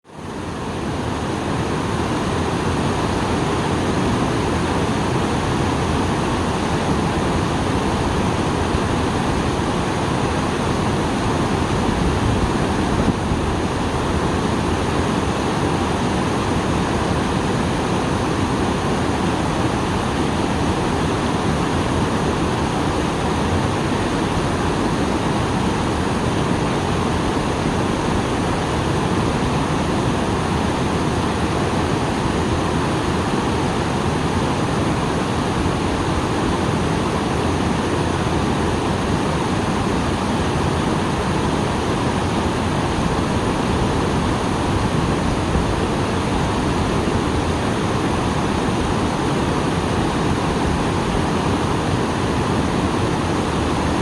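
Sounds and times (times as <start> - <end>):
waterfall rushing and splashing: 0.1 - 54.0.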